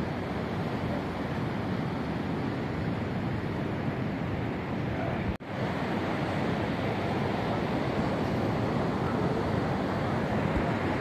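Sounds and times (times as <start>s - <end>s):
sea surf rushing: 0.0s - 11.0s
wind: 0.0s - 11.0s.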